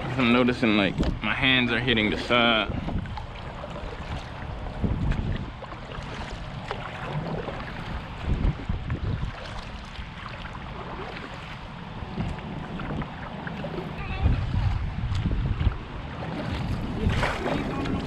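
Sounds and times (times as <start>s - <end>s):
water splashing around kayak: 0.0s - 18.0s
wind buffeting microphone: 0.0s - 18.0s.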